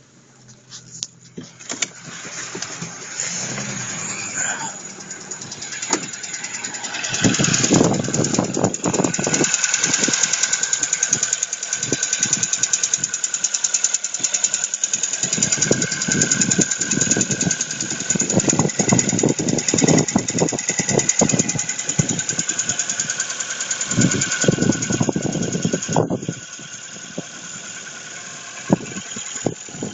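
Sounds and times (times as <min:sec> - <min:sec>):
low engine thuds: 0:00.6 - 0:29.9
car engine knocking: 0:01.1 - 0:29.9.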